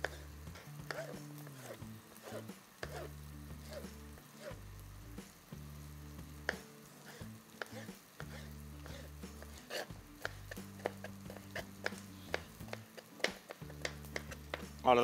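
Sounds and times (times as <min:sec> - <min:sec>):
knife chopping on cutting board: 0:00.8 - 0:04.6, 0:06.4 - 0:14.8.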